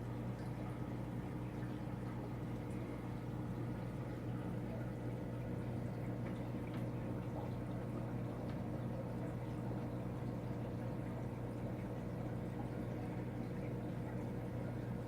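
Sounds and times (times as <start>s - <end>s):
low electric hum: 0.0s - 15.0s
water bubbling and trickling: 0.0s - 15.0s.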